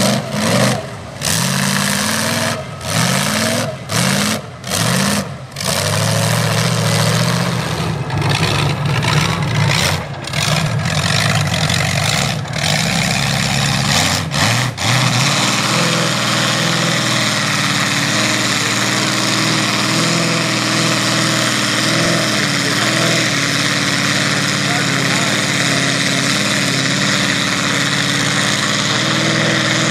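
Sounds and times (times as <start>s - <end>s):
truck engine revving: 0.0s - 29.9s
tyres throwing mud and water: 0.0s - 29.9s.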